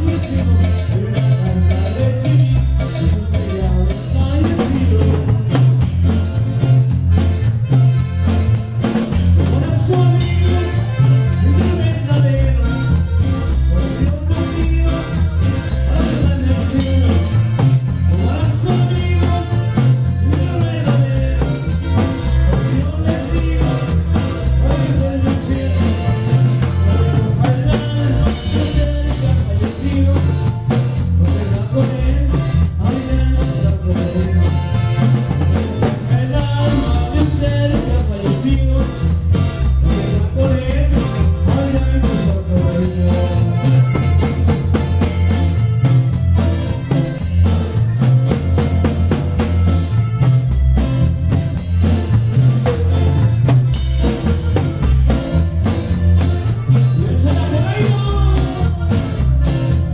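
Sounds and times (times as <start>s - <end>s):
drums: 0.0s - 59.9s
latin dance band over pa: 0.0s - 59.9s
pulsing bass line: 0.0s - 59.9s.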